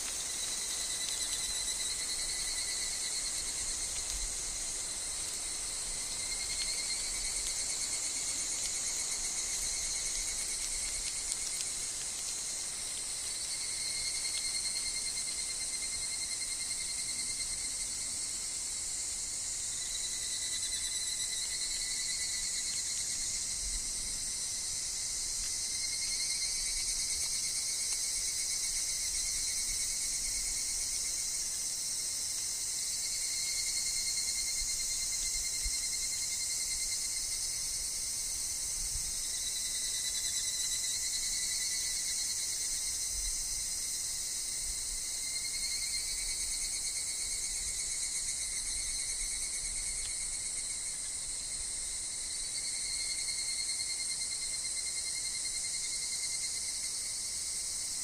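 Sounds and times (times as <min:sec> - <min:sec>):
evening cicadas calling: 0:00.0 - 0:58.0
high-pitched insect hiss: 0:00.0 - 0:58.0.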